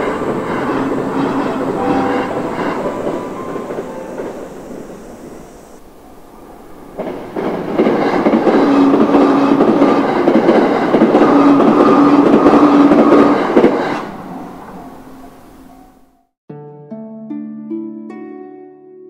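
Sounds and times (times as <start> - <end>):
steady train hum: 0.0 - 16.1
wheel and rail noise: 0.0 - 16.2
electric train passing: 0.0 - 16.3.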